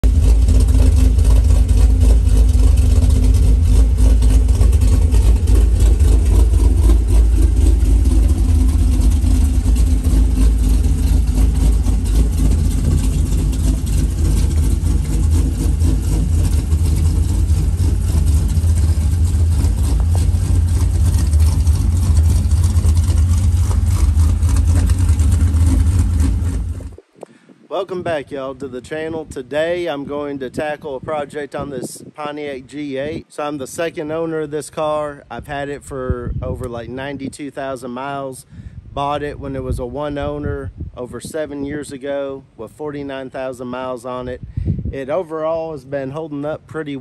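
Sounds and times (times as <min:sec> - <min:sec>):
car engine rumbling: 0:00.0 - 0:47.0.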